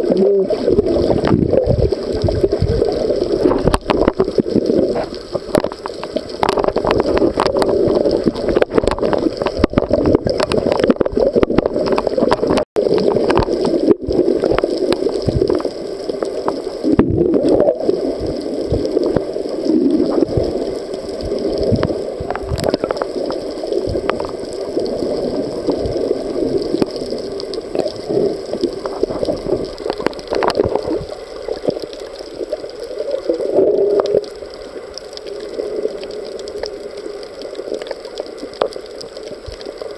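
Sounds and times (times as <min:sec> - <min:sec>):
crackling clicks underwater: 0:00.0 - 0:39.9
underwater gurgling water: 0:00.0 - 0:39.9.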